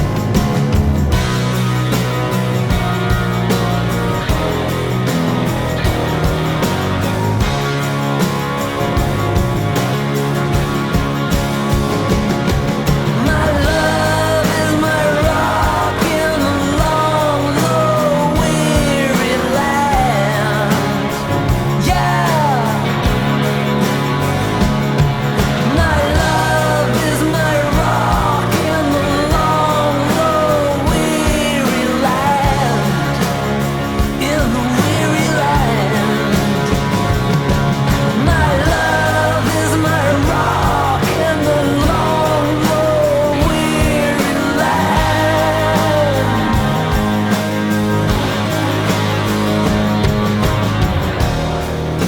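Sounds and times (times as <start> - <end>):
rock band playing: 0.0 - 52.0.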